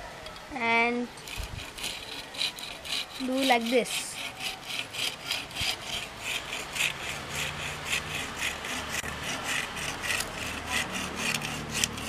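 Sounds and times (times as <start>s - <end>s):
hacksaw cutting wood: 1.2s - 12.0s.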